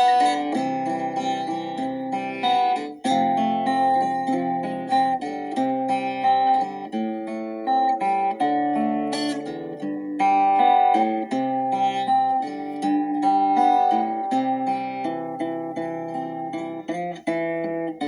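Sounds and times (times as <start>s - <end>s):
acoustic guitar worship piece: 0.0s - 18.0s.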